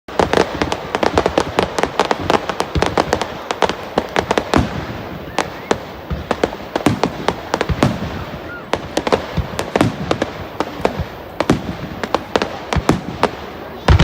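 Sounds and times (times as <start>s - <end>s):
fireworks crackling and popping: 0.1s - 14.0s.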